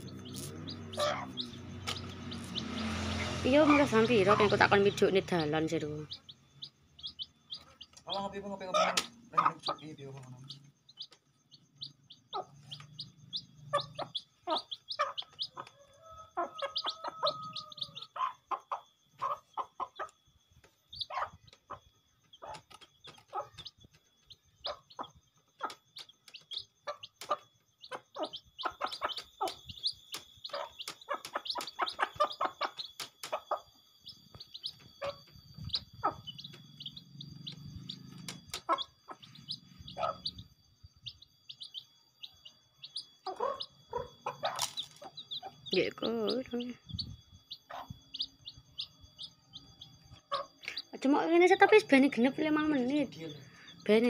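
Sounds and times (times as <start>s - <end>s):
beaks pecking ground: 0.0s - 53.8s
hen clucking: 0.0s - 53.8s
chicks peeping: 0.0s - 54.0s.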